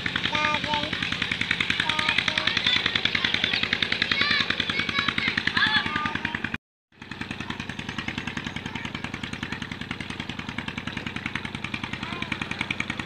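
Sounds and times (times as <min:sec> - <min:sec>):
pump engine running: 0:00.0 - 0:13.0.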